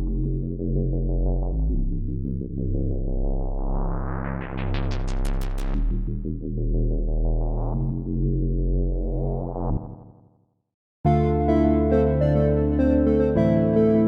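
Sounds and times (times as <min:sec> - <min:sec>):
synthesizer chord with filter sweep: 0:00.0 - 0:10.1, 0:11.1 - 0:14.0.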